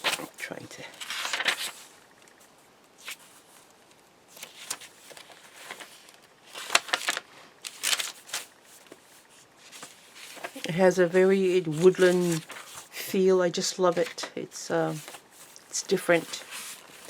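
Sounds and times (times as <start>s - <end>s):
paper rustling and crinkling: 0.0s - 13.0s, 13.9s - 17.0s.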